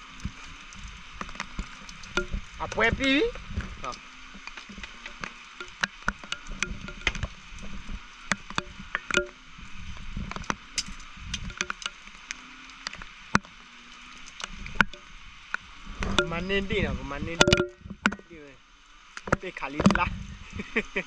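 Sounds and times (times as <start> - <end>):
frogs calling: 0.0 - 20.9
insects chirping: 0.0 - 21.0.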